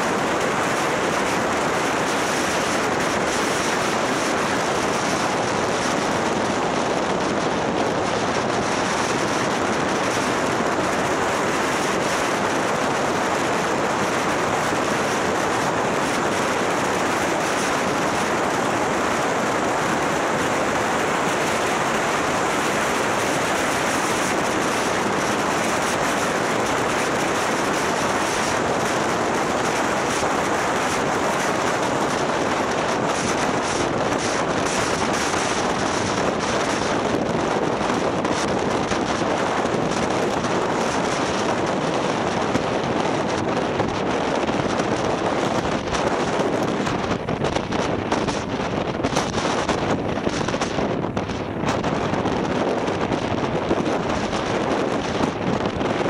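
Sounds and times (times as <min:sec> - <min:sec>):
road noise: 0:00.0 - 0:56.0
wind on microphone: 0:00.0 - 0:56.0.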